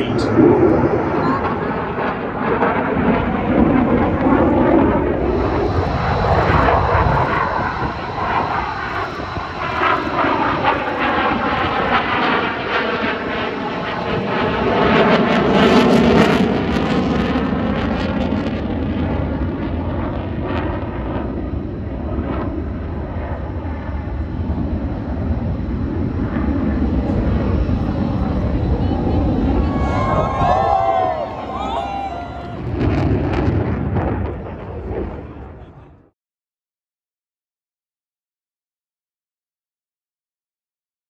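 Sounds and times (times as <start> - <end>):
fighter jet roaring overhead: 0.0 - 36.1.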